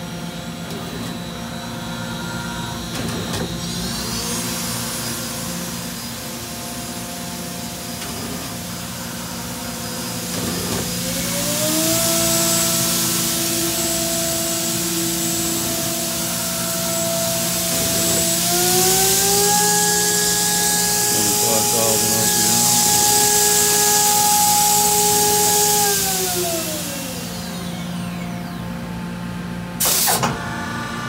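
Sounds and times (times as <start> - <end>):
machine spindle whine: 0.0 - 31.0
machine hiss: 3.6 - 28.2, 29.8 - 30.3.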